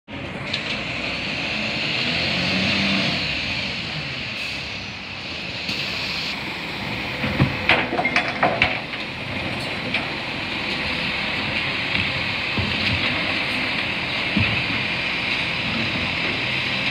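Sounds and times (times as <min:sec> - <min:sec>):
garbage truck diesel engine: 0:00.1 - 0:16.9.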